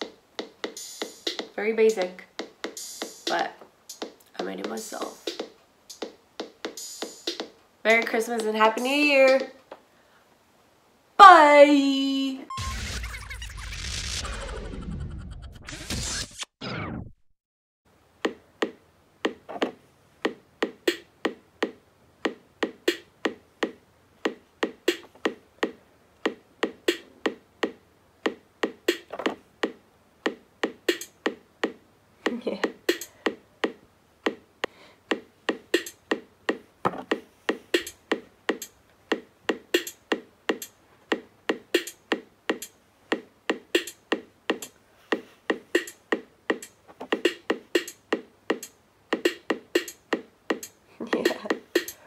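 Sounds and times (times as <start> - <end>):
drum machine pattern: 0.0 - 9.5, 18.2 - 52.0.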